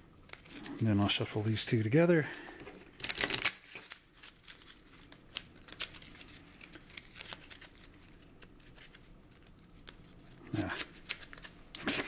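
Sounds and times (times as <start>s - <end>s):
cards being shuffled: 0.3s - 12.0s.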